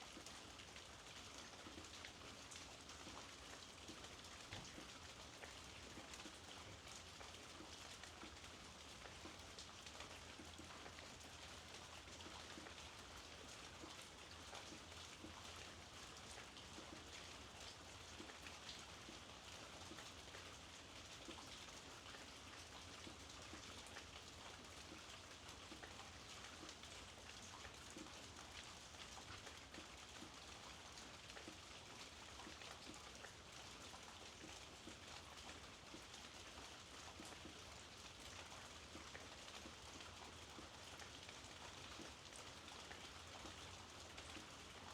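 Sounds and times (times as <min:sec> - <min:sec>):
faint rainfall: 0:00.0 - 0:44.9.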